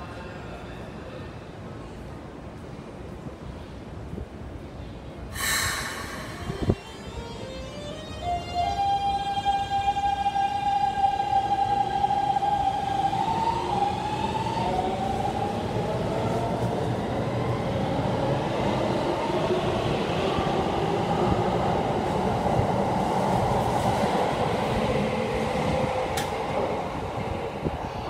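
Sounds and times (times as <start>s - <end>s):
train rolling noise: 0.8s - 28.0s.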